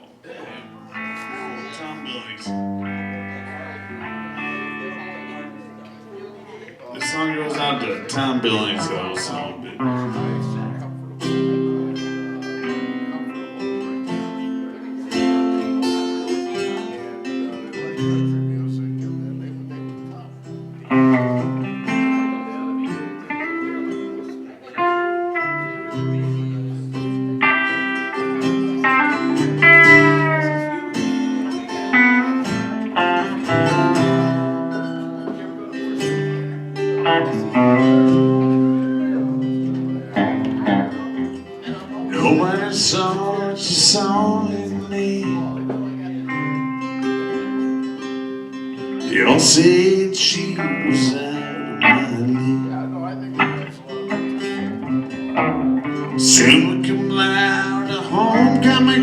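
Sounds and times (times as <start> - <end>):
strummed acoustic guitar: 0.0 - 59.0
band playing: 0.3 - 59.0.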